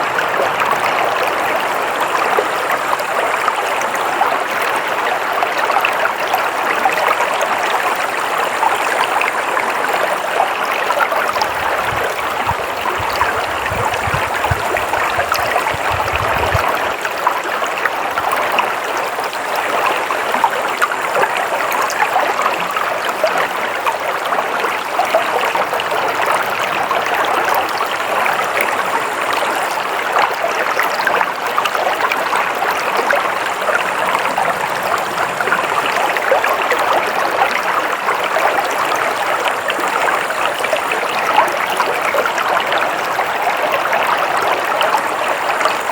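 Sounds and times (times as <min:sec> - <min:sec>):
stream water flowing: 0:00.0 - 0:45.9.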